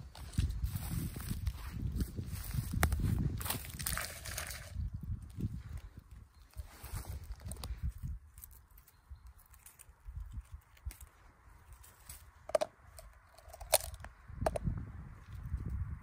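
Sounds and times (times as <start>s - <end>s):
rustling undergrowth: 0.0s - 14.7s.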